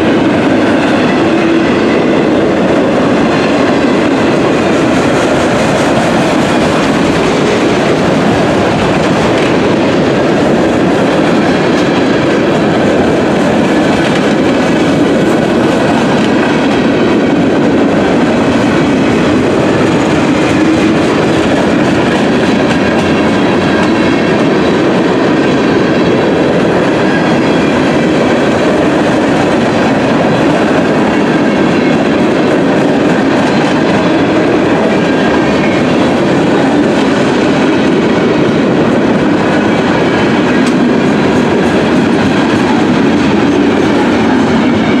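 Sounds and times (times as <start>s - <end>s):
freight cars rolling on rails: 0.0s - 45.0s.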